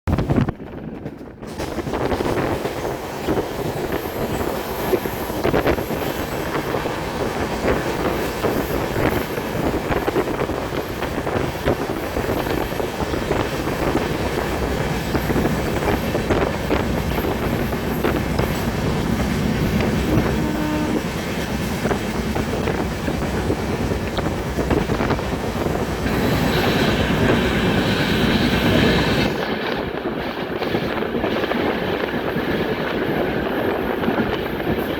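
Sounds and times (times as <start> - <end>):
train rumble and wheel clatter: 0.0 - 34.9.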